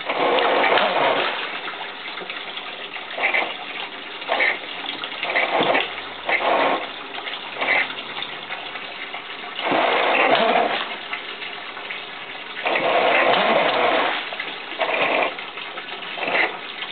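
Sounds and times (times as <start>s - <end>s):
water churning and splashing: 0.0s - 16.9s.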